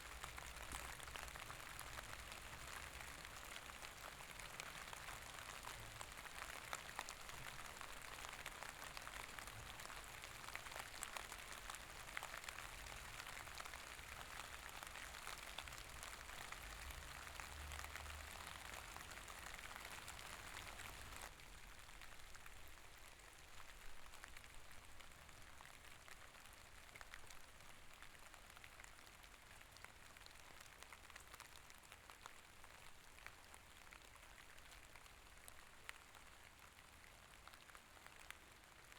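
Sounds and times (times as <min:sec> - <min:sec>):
soft rain pattering: 0:00.0 - 0:38.9.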